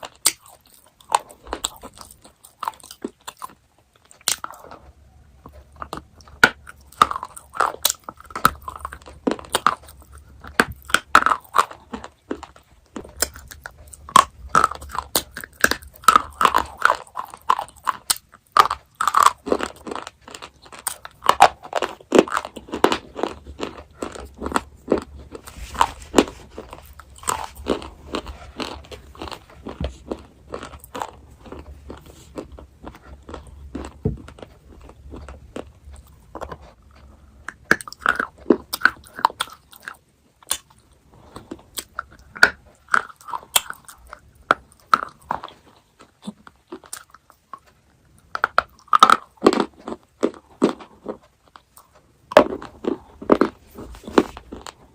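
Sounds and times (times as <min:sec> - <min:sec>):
chewing and crunching chocolate: 0:00.0 - 0:54.9.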